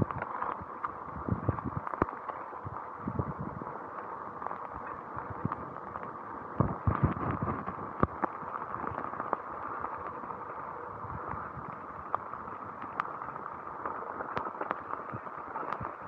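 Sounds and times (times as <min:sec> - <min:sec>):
bicycle tyres on wet gravel: 0:00.0 - 0:16.0
raindrops ticking on camera: 0:00.0 - 0:16.0
heavy rain: 0:02.6 - 0:16.0.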